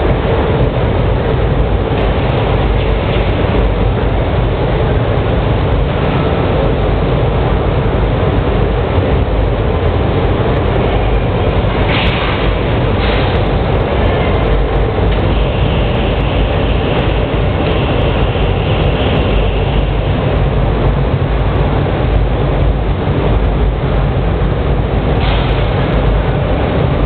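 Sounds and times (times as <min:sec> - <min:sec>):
machinery rumble: 0:00.0 - 0:27.0.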